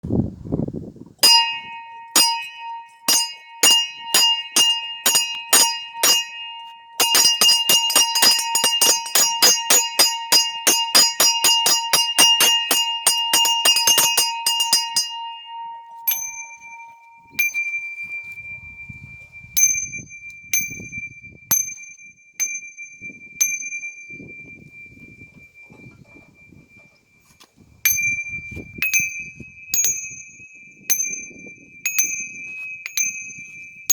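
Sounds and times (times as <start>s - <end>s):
single higher bell ringing: 1.2s - 33.9s.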